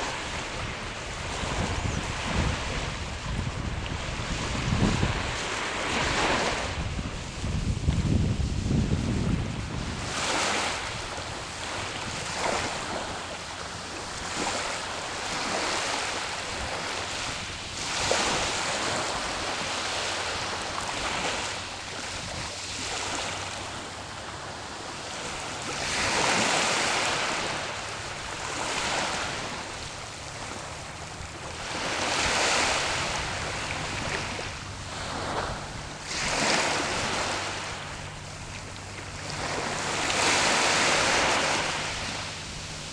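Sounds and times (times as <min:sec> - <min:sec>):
sea waves breaking on shore: 0:00.0 - 0:42.9.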